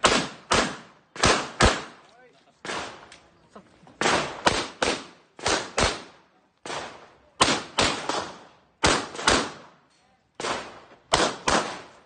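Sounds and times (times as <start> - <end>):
pistol shots echoing: 0.0 - 2.0, 2.6 - 3.1, 4.0 - 9.8, 10.4 - 12.0.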